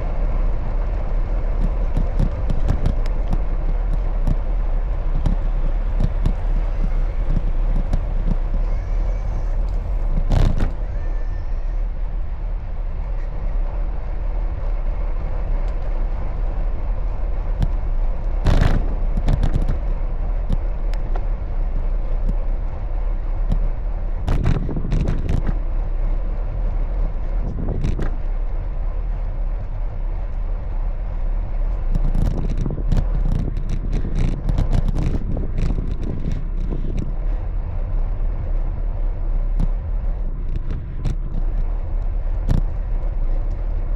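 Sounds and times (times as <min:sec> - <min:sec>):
bicycle road noise: 0:00.0 - 0:43.9
car traffic: 0:00.0 - 0:43.9.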